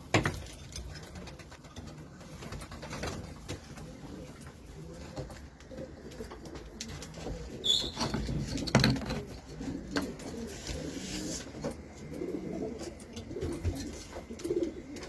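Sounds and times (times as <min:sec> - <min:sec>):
pigeons cooing: 0:00.8 - 0:15.0.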